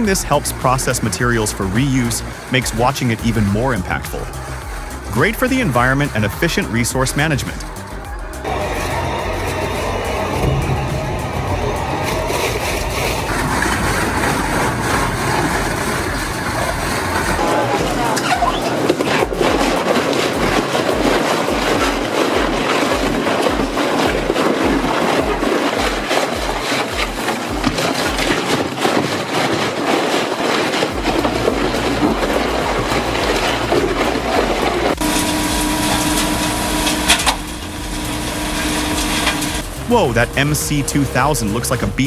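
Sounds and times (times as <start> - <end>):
wood chipper grinding wood: 0.0 - 42.0.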